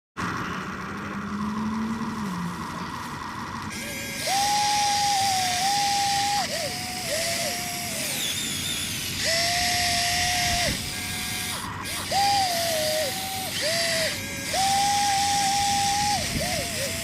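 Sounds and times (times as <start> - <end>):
electric gear motors whining: 0.2 - 17.0.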